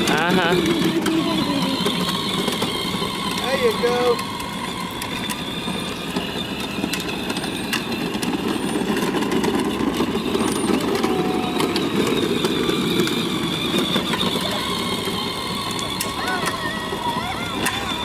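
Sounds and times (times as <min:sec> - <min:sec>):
plastic wheels rolling: 0:00.0 - 0:18.0
toy car motor rumble: 0:00.0 - 0:18.0.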